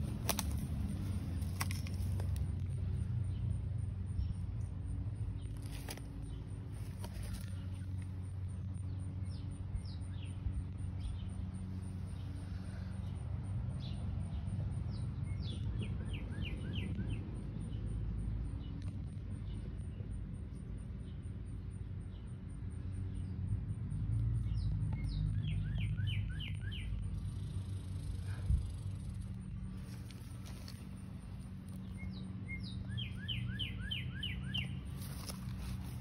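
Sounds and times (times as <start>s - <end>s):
birds chirping: 0.0s - 23.6s, 24.2s - 36.0s
steady low rumble: 0.0s - 36.0s.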